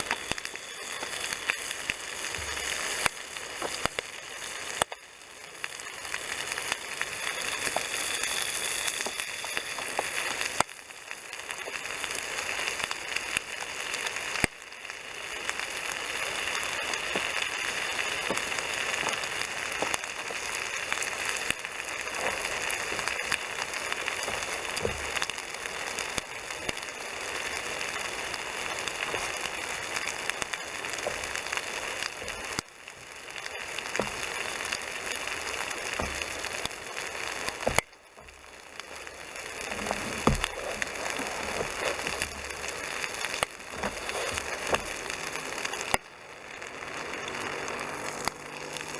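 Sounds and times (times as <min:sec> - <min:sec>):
bacon sizzling in a frying pan: 0:00.0 - 0:48.9.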